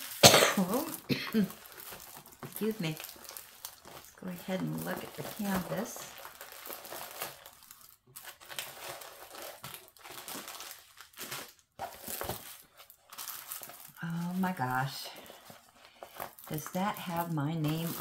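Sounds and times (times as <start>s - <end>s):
plastic film crinkling: 0.0s - 18.0s.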